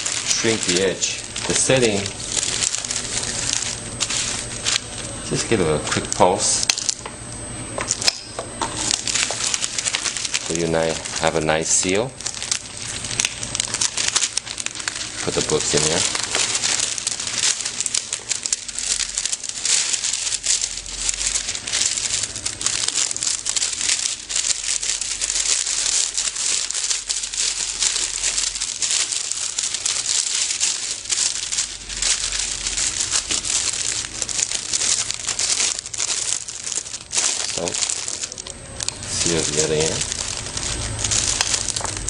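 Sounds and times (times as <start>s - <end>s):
plastic film crinkling: 0.0s - 42.0s.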